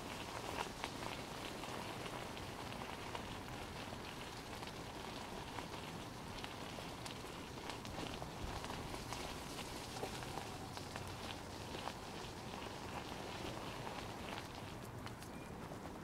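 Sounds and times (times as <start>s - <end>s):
small irregular crackles: 0.0s - 16.0s.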